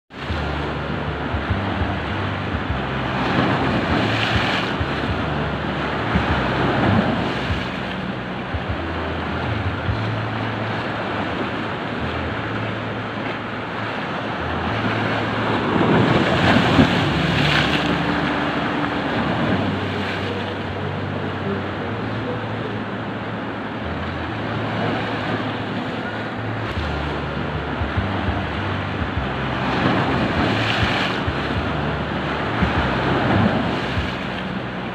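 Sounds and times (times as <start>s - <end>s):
surf washing onto beach: 0.1s - 34.9s
wind on microphone: 0.1s - 34.9s.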